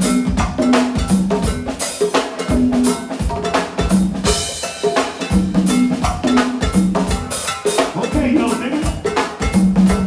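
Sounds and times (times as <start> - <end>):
drum kit beat: 0.0 - 10.0
hand percussion: 0.0 - 10.0.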